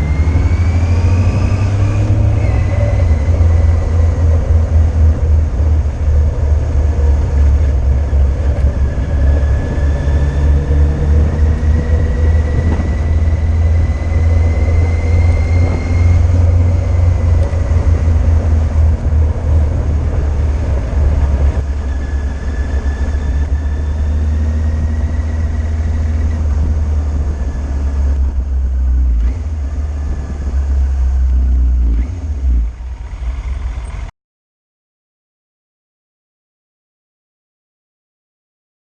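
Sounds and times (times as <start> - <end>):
motorcycle engine: 0.0 - 34.1
wind rumble on microphone: 0.0 - 34.1.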